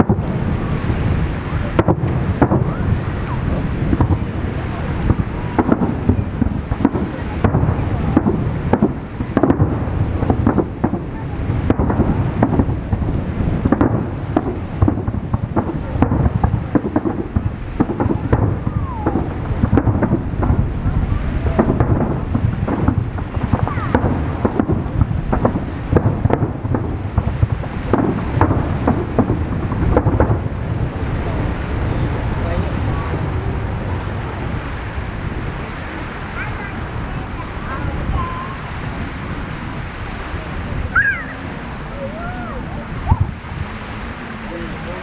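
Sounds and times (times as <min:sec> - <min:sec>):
fireworks booming and crackling: 0:00.0 - 0:45.0.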